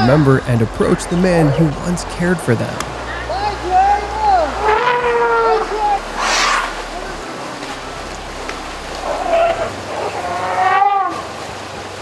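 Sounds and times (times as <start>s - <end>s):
elephant call: 0.0s - 11.4s
background hiss: 0.0s - 12.0s.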